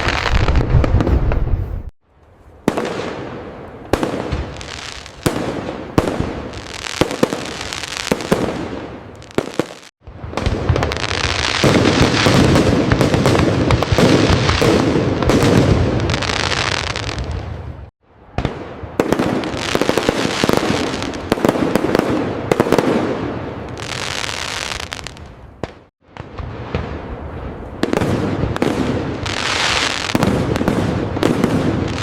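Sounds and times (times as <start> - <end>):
fireworks bursts and pops: 0.0 - 1.9, 2.7 - 32.0
fireworks crackling: 0.0 - 1.9, 2.6 - 32.0
fireworks low booms: 0.0 - 32.0.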